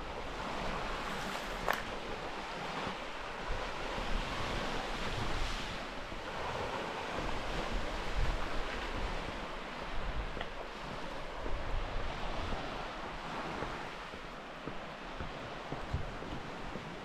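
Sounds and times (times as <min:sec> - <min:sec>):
waves washing onto stony shore: 0:00.0 - 0:14.5
wind gusting on microphone: 0:00.0 - 0:17.0.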